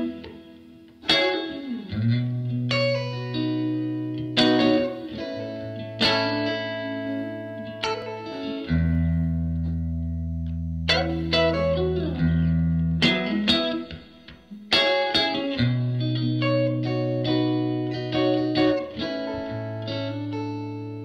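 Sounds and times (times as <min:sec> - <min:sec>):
guitar chords ringing: 0:00.0 - 0:21.0.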